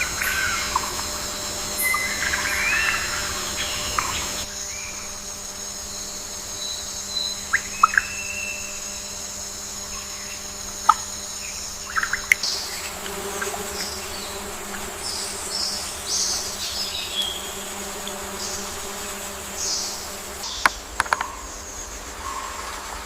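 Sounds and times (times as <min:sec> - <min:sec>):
high-pitched insect chirps: 0:00.0 - 0:22.5
flying insect buzzing: 0:00.0 - 0:22.7.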